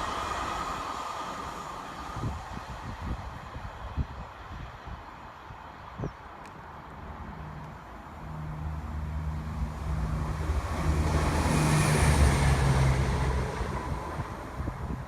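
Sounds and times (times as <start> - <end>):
train rail noise: 0.0 - 5.7, 6.4 - 15.0
diesel train engine hum: 0.0 - 15.0.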